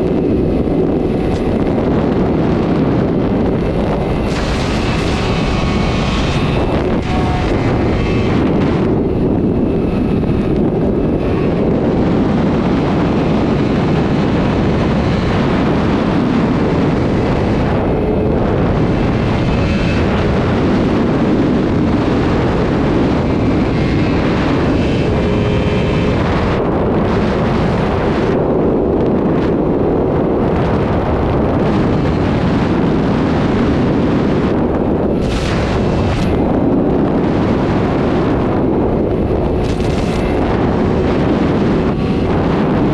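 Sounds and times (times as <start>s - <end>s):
motorcycle engine at high speed: 0.0s - 42.9s
wind buffeting microphone: 0.0s - 42.9s.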